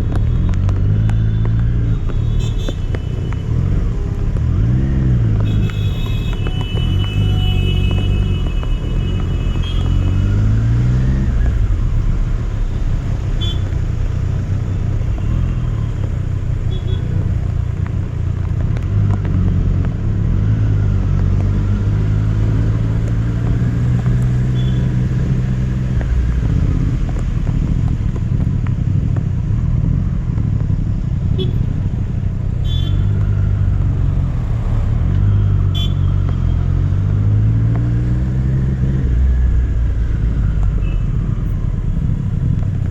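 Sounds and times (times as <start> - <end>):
road and wind noise: 0.0 - 42.9.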